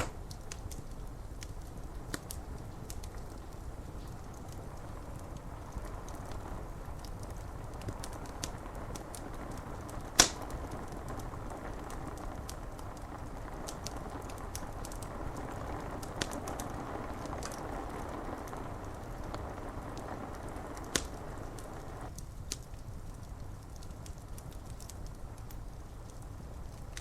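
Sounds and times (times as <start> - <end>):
steady rain: 0.0 - 27.0
wood fire crackling: 0.0 - 27.0.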